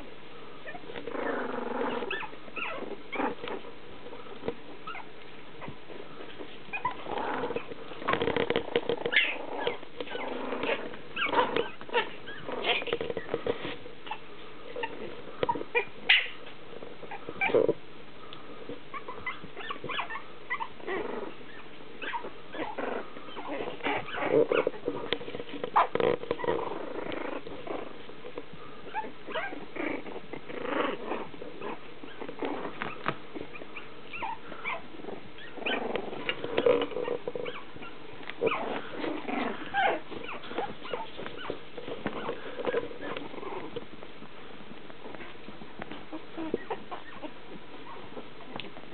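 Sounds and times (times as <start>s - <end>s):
puppies growling and yipping: 0.6s - 17.8s, 18.9s - 48.9s.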